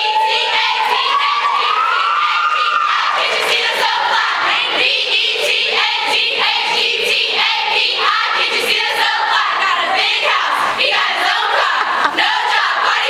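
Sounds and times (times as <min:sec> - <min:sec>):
women singing in chorus: 0:00.0 - 0:13.0.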